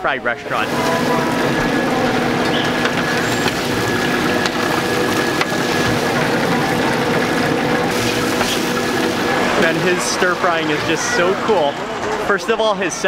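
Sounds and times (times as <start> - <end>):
open fire roaring: 0.4 - 12.3.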